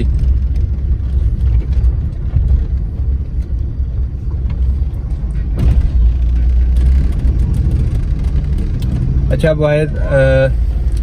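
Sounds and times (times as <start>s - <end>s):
road and engine rumble inside car: 0.0s - 11.0s.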